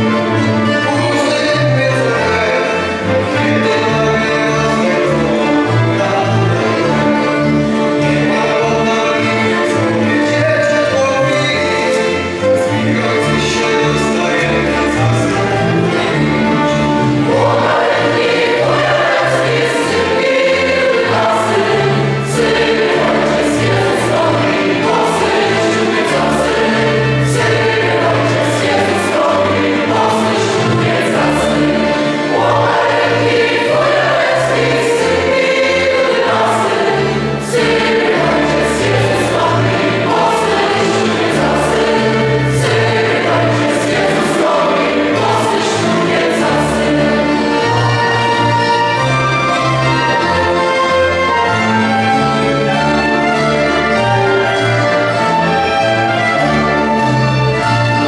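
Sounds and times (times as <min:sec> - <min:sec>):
choir singing a carol: 0:00.0 - 0:58.0
instrumental accompaniment: 0:00.0 - 0:58.0.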